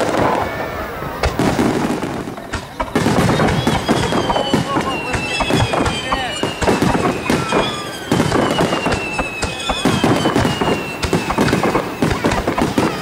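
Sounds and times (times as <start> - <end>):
fireworks bursting and crackling: 0.0 - 13.0
high falling whistle: 2.5 - 13.0.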